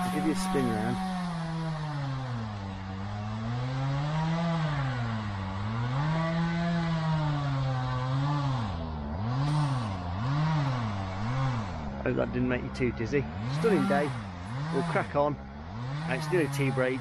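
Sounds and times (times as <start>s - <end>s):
chainsaw engine revving: 0.0s - 17.0s.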